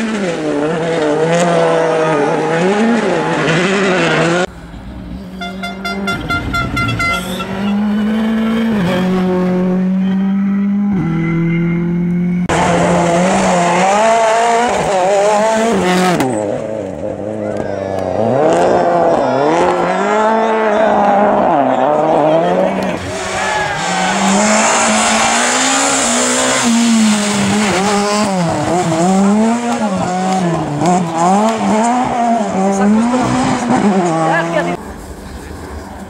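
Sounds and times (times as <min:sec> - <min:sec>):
rally car engines revving: 0:00.0 - 0:36.0
tyre and road noise: 0:00.0 - 0:36.0.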